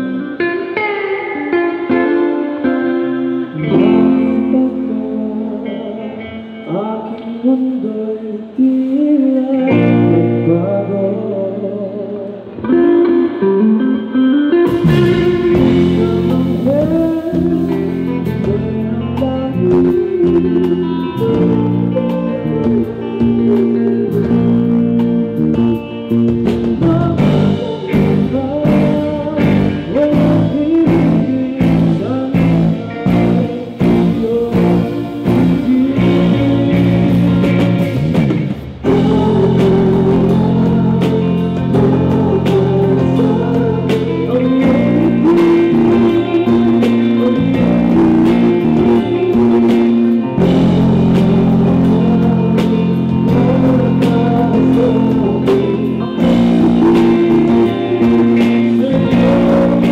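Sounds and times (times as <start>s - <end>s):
live rock band playing: 0.0s - 59.9s
man singing lead vocal: 0.0s - 59.9s.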